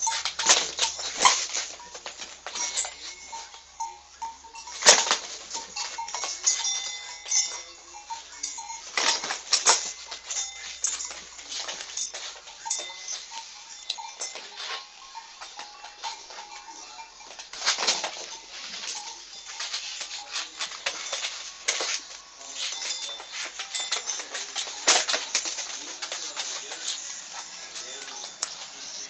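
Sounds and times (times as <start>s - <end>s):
animals scuffling with knocks: 0.0s - 29.0s.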